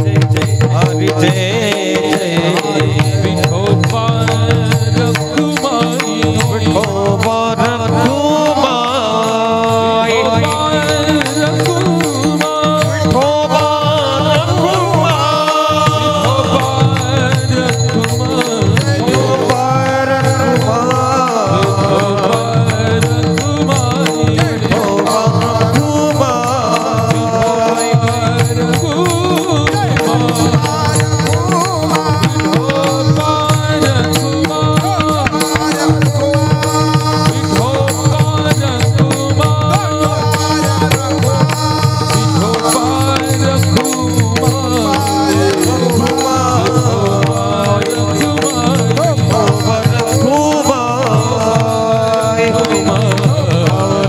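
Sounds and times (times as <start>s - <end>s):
hand drum percussion: 0.0s - 54.0s.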